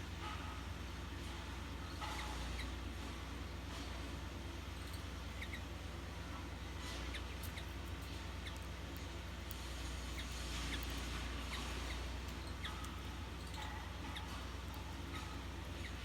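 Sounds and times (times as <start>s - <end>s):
steady low hum: 0.0s - 16.0s
small birds chirping: 1.7s - 3.6s, 4.6s - 16.0s.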